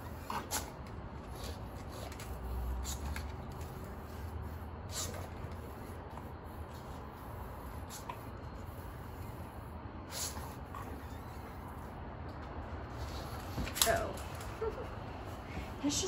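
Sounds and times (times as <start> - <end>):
dog sniffing: 0.0 - 12.1, 12.8 - 14.0.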